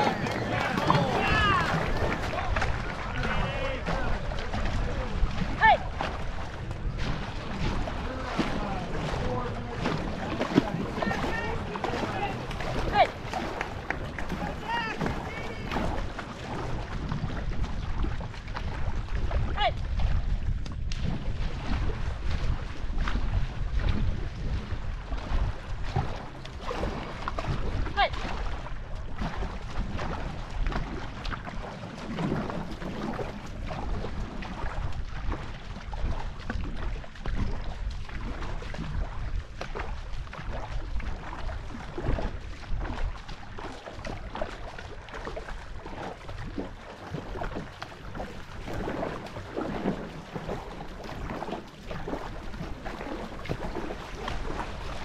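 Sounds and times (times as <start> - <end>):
paddles stroking through water: 0.0 - 55.0
wind buffeting microphone: 0.0 - 55.0.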